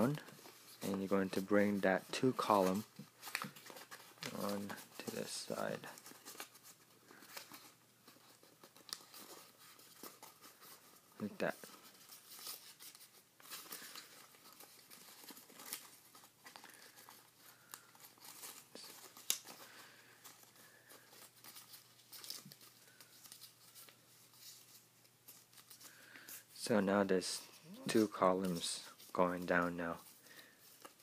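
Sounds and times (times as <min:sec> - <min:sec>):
paper rustling and crinkling: 0:00.0 - 0:31.0
sharp paper crackles: 0:00.0 - 0:31.0.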